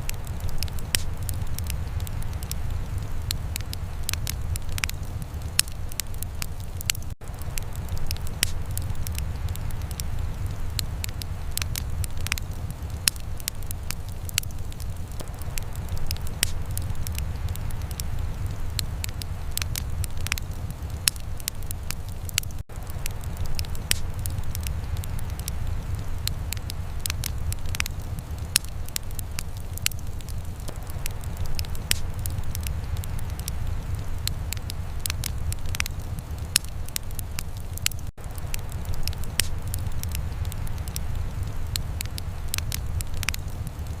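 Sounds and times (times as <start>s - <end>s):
low steady rumble: 0.0s - 44.0s
wood fire crackling and popping: 0.0s - 44.0s.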